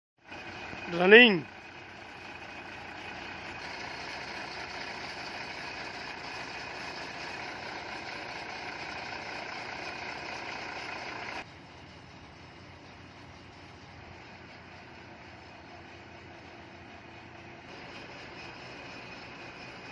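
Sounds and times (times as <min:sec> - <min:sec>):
truck diesel engine revving: 0:00.2 - 0:19.9.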